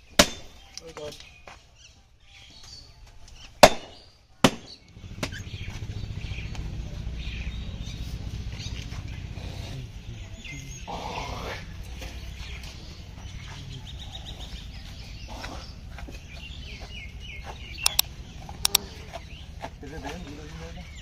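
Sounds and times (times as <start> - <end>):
low rumble of outdoor background: 0.0 - 21.0.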